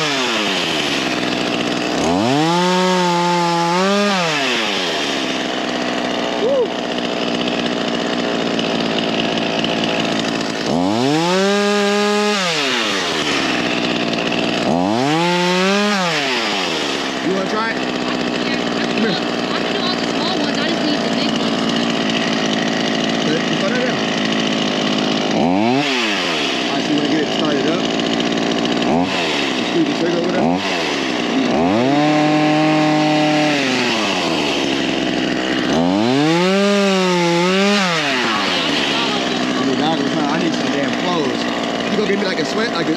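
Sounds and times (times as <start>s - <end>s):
chainsaw revving and idling: 0.0s - 42.9s.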